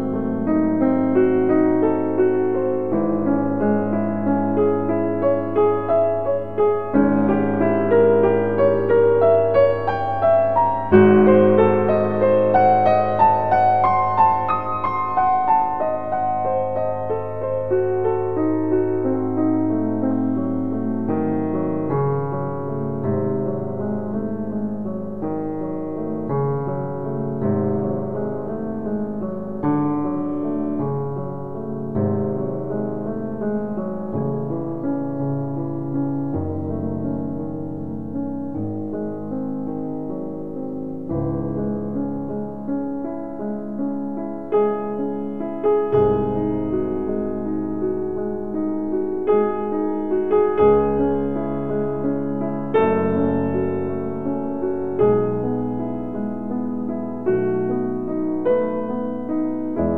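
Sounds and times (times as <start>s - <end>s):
slow piano chords: 0.0s - 59.9s.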